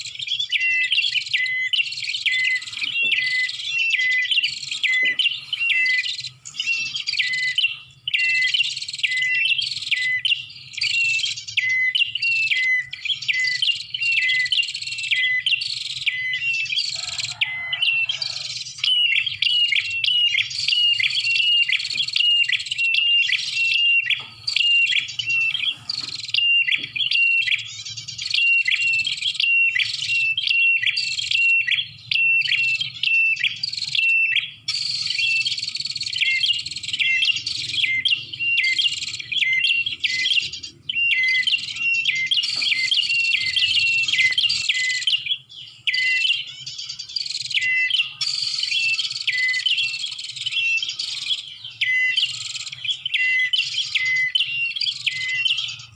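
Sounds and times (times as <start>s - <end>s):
bird sharp chirps: 0.0s - 55.9s.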